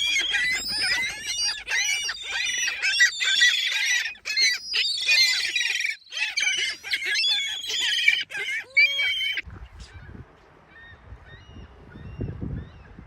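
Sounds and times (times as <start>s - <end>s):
gulls calling and squawking: 0.0s - 13.0s.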